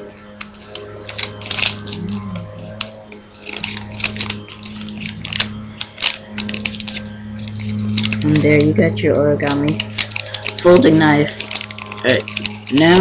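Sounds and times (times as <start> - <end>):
paper crinkling: 0.0 - 13.0
steady low hum: 0.0 - 13.0.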